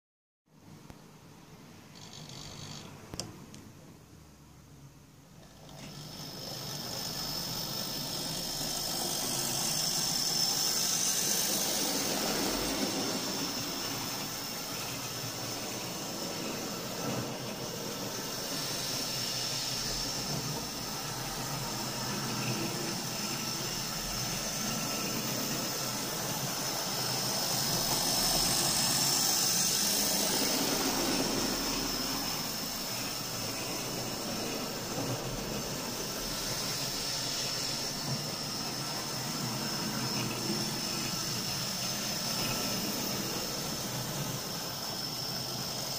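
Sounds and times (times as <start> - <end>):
model train motor whirring: 1.9 - 3.3, 5.4 - 45.9
wheels running on rails: 5.6 - 45.9.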